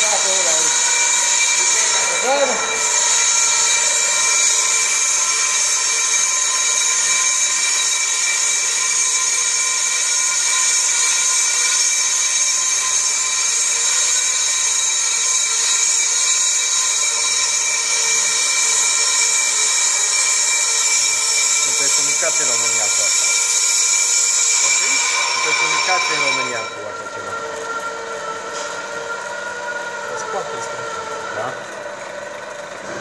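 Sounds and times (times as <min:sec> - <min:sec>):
brake lathe motor whine: 0:00.0 - 0:33.0.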